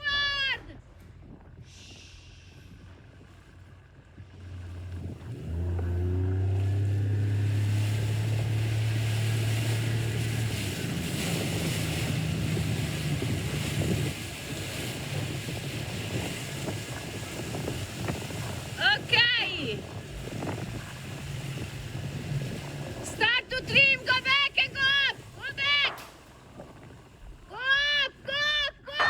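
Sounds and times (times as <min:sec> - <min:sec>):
wind and water rushing: 0:00.0 - 0:29.0
outboard motor running: 0:00.7 - 0:28.4.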